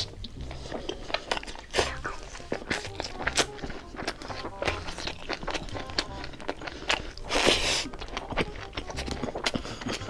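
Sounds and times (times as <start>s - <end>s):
chewing mouth sounds: 0.0s - 10.0s
soft background music: 0.0s - 10.0s.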